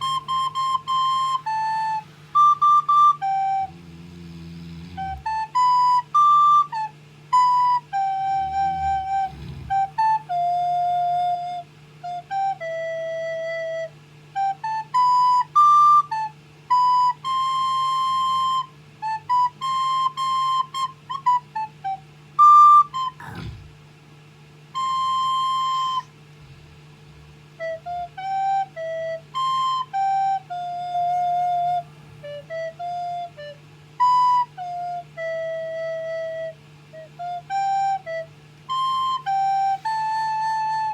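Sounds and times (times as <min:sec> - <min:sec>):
child playing recorder: 0:00.0 - 0:04.0, 0:05.0 - 0:23.2, 0:24.7 - 0:26.2, 0:27.6 - 0:40.9.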